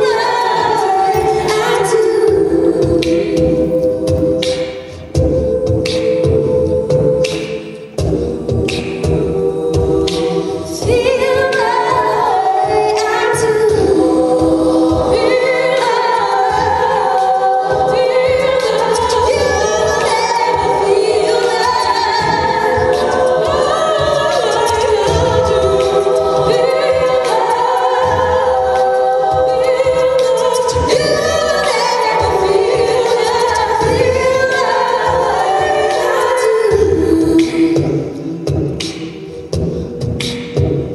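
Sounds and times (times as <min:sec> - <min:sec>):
women singing in harmony: 0:00.0 - 0:40.7
vocal percussion beat: 0:00.0 - 0:40.9.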